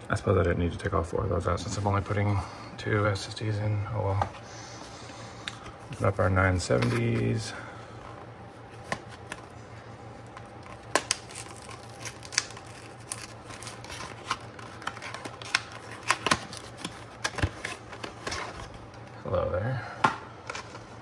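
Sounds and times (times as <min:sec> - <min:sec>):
air conditioner hum: 0:00.0 - 0:21.0.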